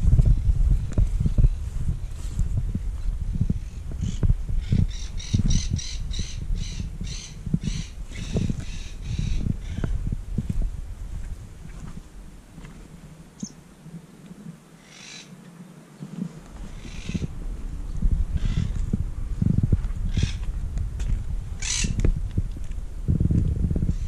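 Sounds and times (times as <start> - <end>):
wind buffeting microphone: 0.0 - 14.6, 16.0 - 24.0.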